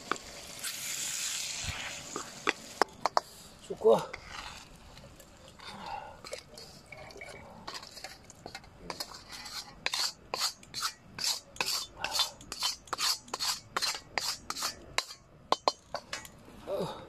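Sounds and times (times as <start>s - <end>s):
wooden spatula scraping a wok: 0.6s - 16.2s.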